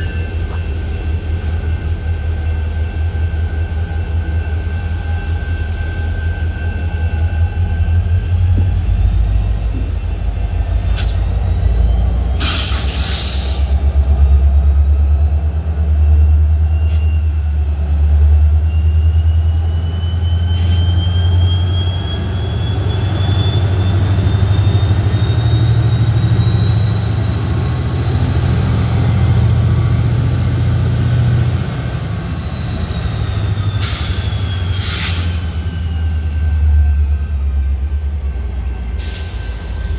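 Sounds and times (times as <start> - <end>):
train wheels on rail: 0.0 - 39.9.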